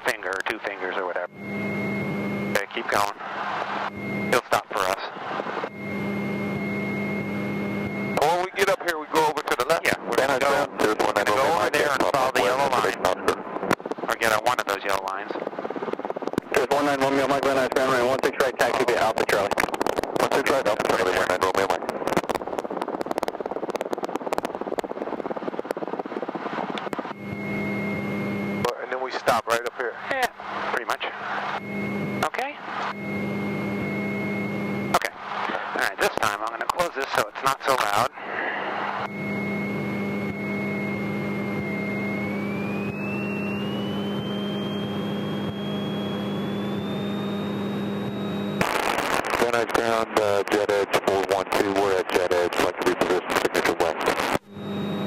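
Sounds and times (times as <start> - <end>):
buzzing hum with high tone: 0.0 - 14.8, 15.4 - 55.0
airplane engine and propeller: 0.0 - 55.0
thin high whine: 0.0 - 55.0.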